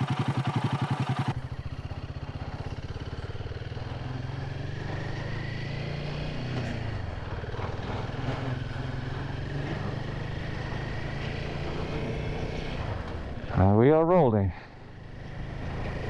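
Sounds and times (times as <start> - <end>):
motorcycle engine at low revs: 0.0 - 13.7, 14.6 - 16.0.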